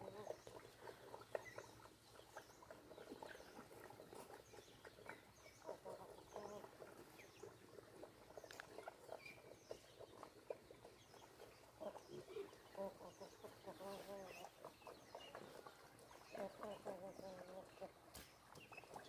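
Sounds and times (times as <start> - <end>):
poultry clucking: 0.0 - 19.0.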